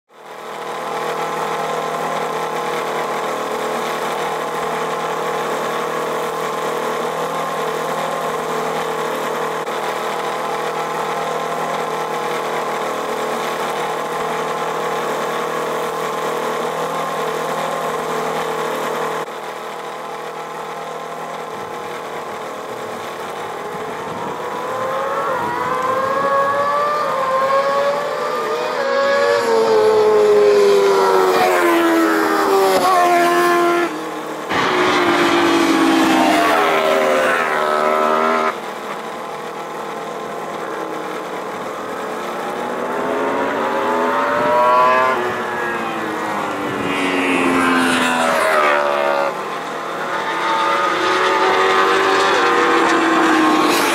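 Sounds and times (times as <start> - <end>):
motorcycle accelerating through gears: 0.2 - 53.9.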